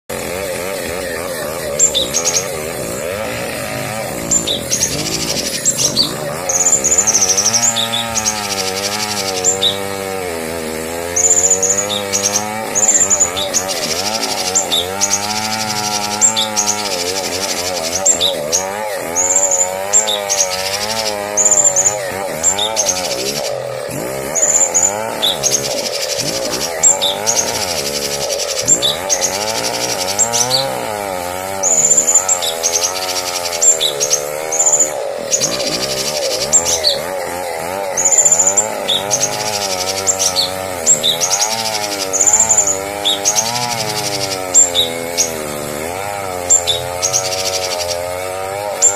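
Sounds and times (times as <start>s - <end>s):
wavering buzzy drone: 0.1s - 48.9s.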